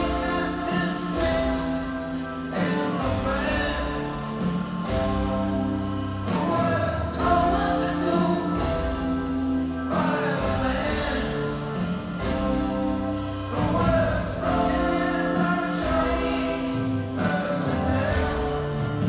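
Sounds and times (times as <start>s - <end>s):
bass: 0.0s - 19.0s
guitar: 0.0s - 19.0s
sung vocal harmonies: 0.0s - 19.0s.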